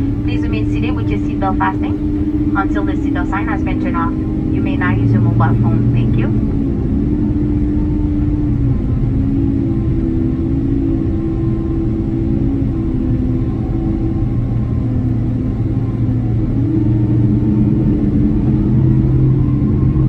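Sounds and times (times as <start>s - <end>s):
airplane cabin rumble: 0.0s - 20.0s
jet engines droning: 0.0s - 20.0s.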